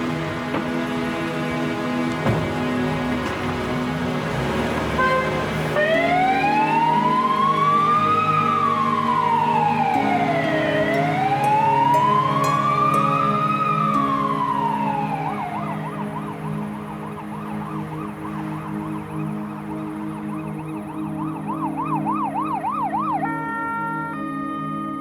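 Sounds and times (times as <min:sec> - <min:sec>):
low steady drone: 0:00.0 - 0:25.0
synthesized music notes: 0:00.0 - 0:25.0
siren wailing and warbling: 0:05.0 - 0:25.0.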